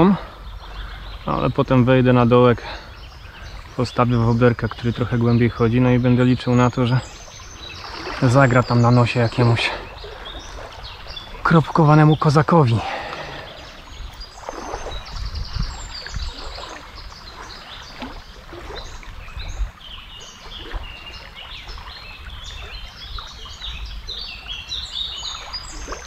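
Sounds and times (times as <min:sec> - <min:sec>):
songbirds chirping: 0:00.0 - 0:26.0
water sloshing and splashing: 0:00.0 - 0:26.0.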